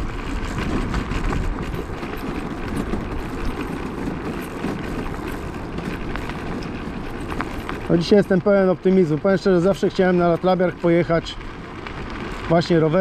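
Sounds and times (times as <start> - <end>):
small clicks and rattles: 0.0 - 13.0
tyres rumbling on dirt road: 0.0 - 13.0.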